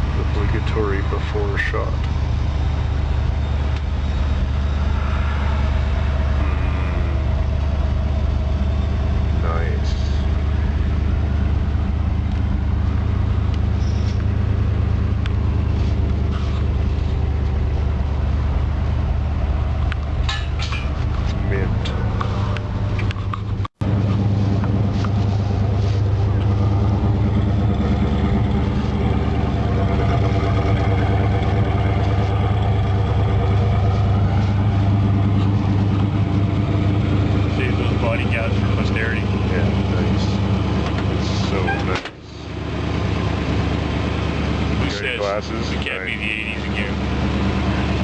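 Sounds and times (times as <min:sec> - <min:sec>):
car engine running: 0:00.0 - 0:48.0.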